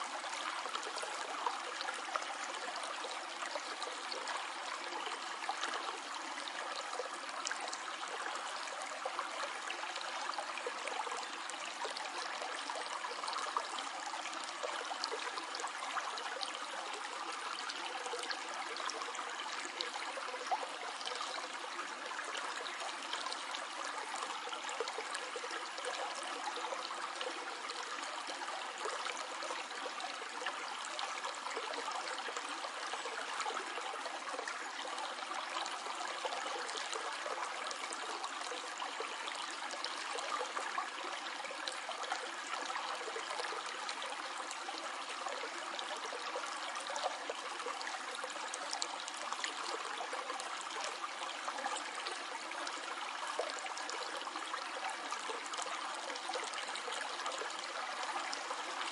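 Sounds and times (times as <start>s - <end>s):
small stream trickling over stones: 0.0s - 58.9s.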